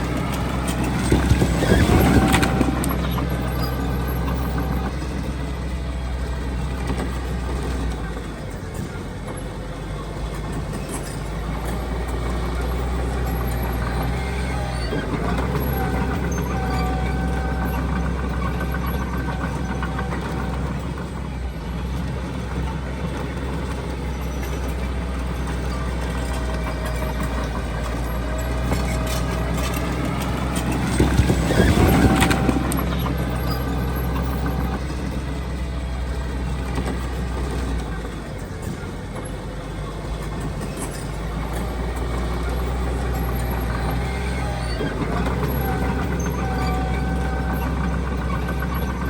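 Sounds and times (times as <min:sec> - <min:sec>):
heavy diesel machinery drone: 0:00.0 - 0:49.0.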